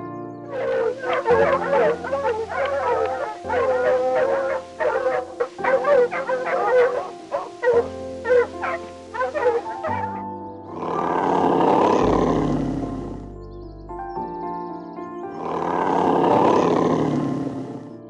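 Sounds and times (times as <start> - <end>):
soft piano music: 0.0 - 18.0
bear roaring: 0.5 - 13.4, 15.3 - 18.0.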